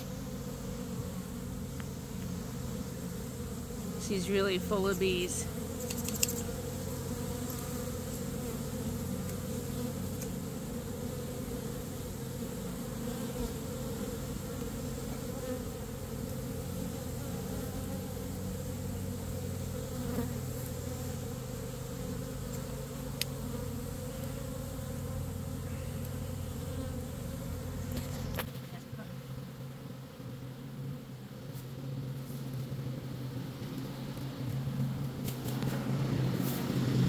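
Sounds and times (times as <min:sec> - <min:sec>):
bees buzzing: 0:00.0 - 0:37.0.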